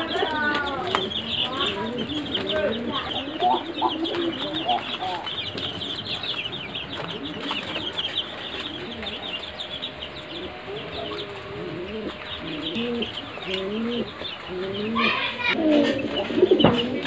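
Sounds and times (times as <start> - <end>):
chicks peeping: 0.0 - 17.0
lower-pitched bird calls: 0.0 - 17.0.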